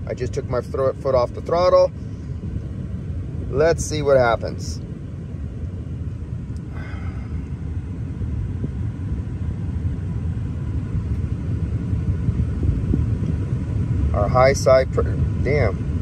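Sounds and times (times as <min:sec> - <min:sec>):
air conditioning running: 0:00.0 - 0:16.0
car engine idling: 0:00.0 - 0:16.0.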